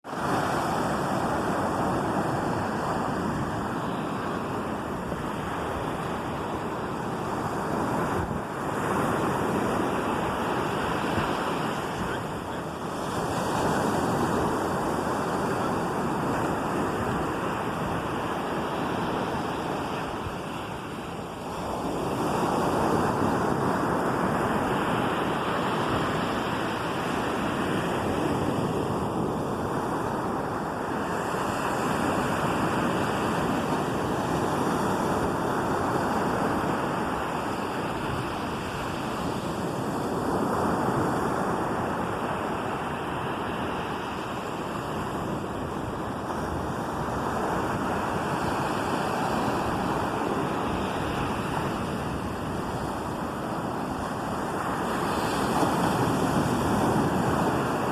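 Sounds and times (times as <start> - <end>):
ocean waves breaking: 0.1 - 57.9
wind buffeting microphone: 0.1 - 57.9.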